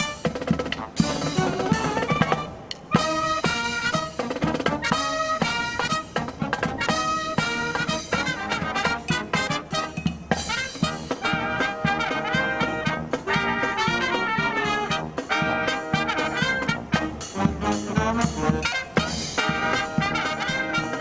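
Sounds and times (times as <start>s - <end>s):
brass marching band playing jazz: 0.0s - 21.0s
snare and bass drum: 0.0s - 21.0s
trumpets and trombones chord stabs: 0.0s - 21.0s.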